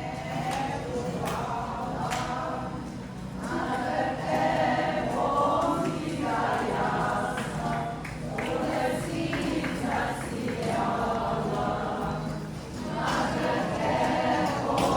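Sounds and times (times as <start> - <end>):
choir singing: 0.0 - 14.9.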